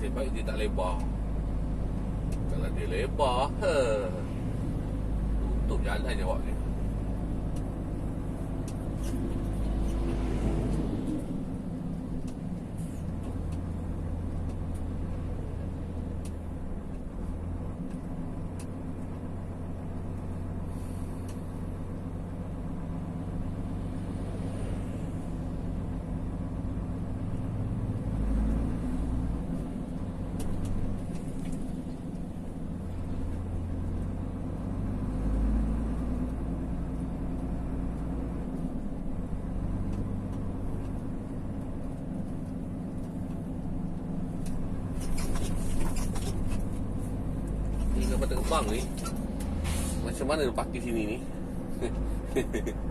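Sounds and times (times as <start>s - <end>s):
road noise: 0.0s - 52.9s
vehicle engine humming: 0.0s - 52.9s.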